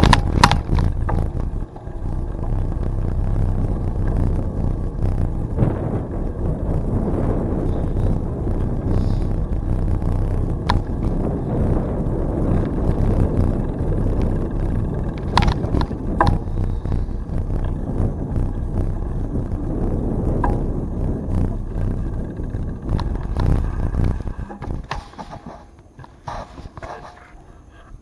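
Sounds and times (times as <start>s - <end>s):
bicycle clicks and rattles: 0.0s - 27.3s
wind and road noise: 0.0s - 28.0s.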